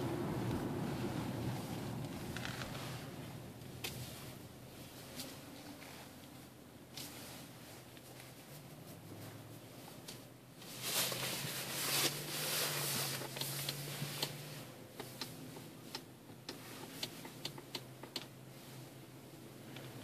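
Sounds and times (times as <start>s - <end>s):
car engine idling hum: 0.0s - 20.0s
rustling hiss: 0.0s - 20.0s.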